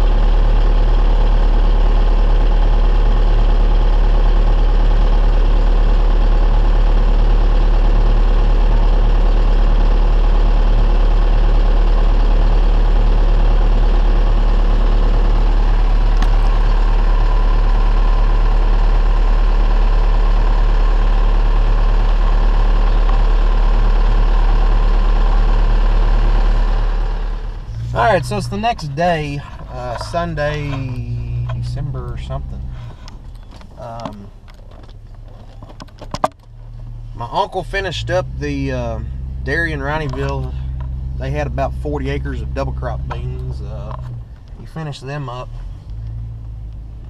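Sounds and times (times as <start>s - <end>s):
diesel engine humming: 0.0s - 47.0s.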